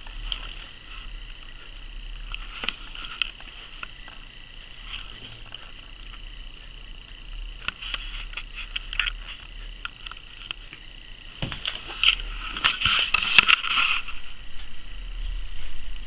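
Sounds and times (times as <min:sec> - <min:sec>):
rustling and scraping: 0:00.0 - 0:06.4, 0:07.5 - 0:10.8, 0:11.4 - 0:15.9.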